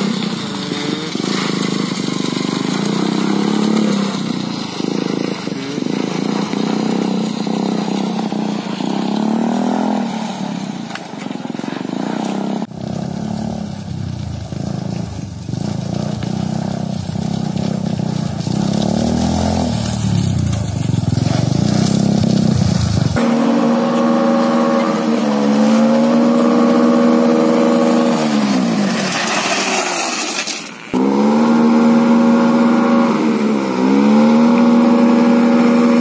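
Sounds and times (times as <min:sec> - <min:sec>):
go-kart engine revving: 0:00.0 - 0:36.0.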